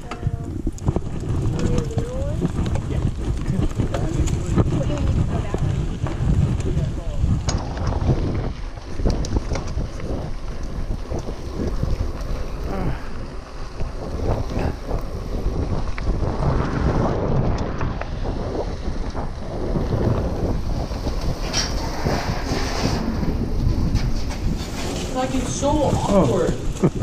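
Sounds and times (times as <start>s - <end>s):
bike rattling over bumps: 0.0s - 27.0s
bike tyres rolling on dirt: 0.0s - 27.0s
wind buffeting microphone: 0.0s - 27.0s.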